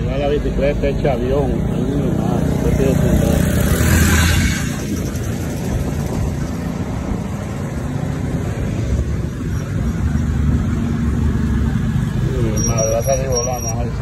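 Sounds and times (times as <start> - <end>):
motorcycle engines running: 0.0 - 14.0
traffic rumble: 0.0 - 14.0.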